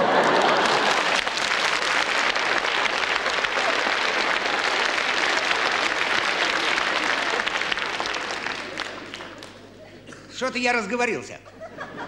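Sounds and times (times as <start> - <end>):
large audience applauding: 0.0 - 9.8.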